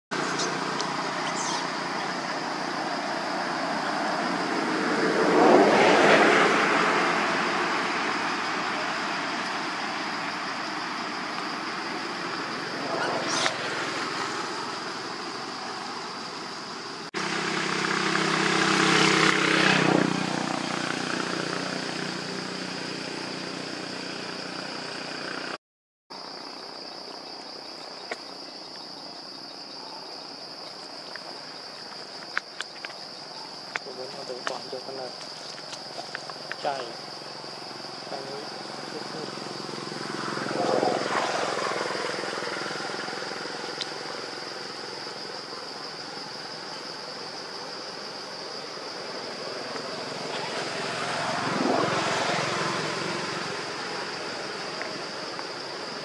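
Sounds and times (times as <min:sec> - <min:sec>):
motor vehicles passing: 0:00.1 - 0:25.6, 0:33.0 - 0:56.0
high insect drone: 0:00.1 - 0:56.0.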